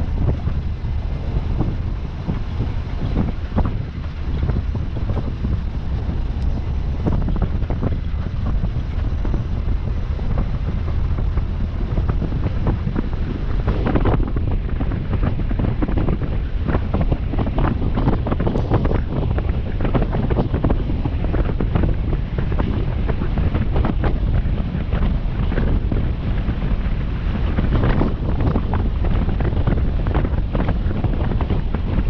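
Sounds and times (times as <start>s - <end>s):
heavy machinery rumbling: 0.0s - 32.0s
wind buffeting microphone: 0.0s - 32.0s.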